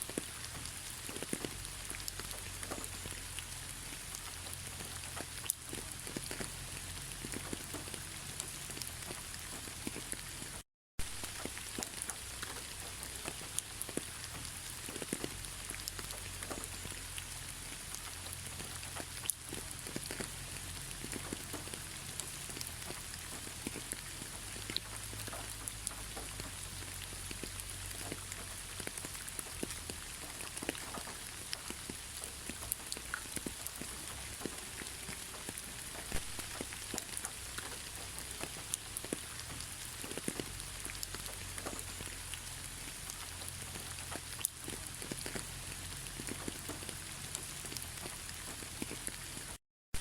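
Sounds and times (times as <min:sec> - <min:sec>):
raindrops ticking close by: 0:00.0 - 0:50.0
steady rain hiss: 0:00.0 - 0:50.0.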